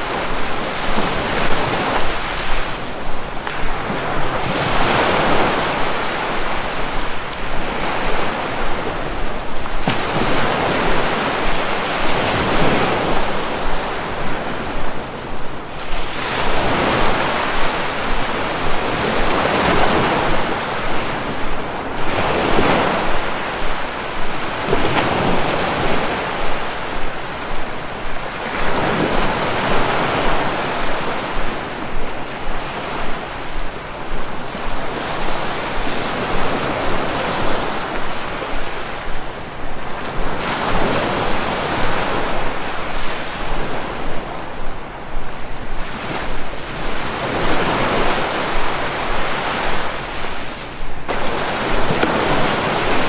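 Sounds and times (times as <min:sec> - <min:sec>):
sea waves breaking: 0:00.0 - 0:53.0
steady rush of surf: 0:00.0 - 0:53.0.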